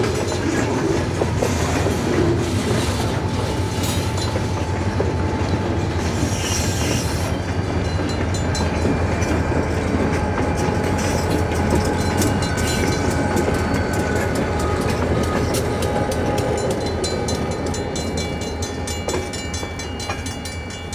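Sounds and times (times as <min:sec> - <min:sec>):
diesel locomotives rumbling: 0:00.0 - 0:20.9
train wheels clacking on rails: 0:00.0 - 0:20.9.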